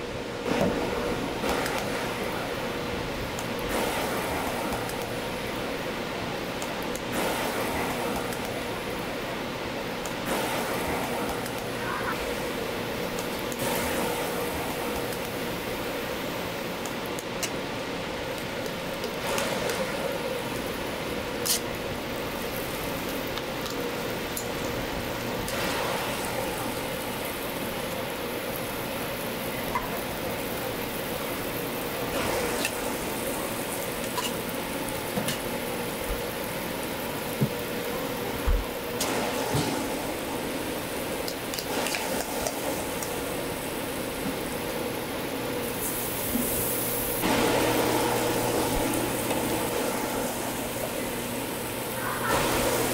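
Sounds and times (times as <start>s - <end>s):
patties sizzling in oil: 3.1s - 52.9s.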